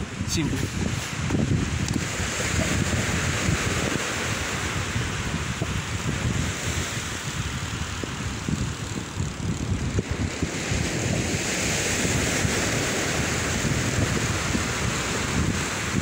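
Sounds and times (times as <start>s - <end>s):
surf hissing on beach: 0.0s - 16.0s
wind buffeting microphone: 0.0s - 16.0s.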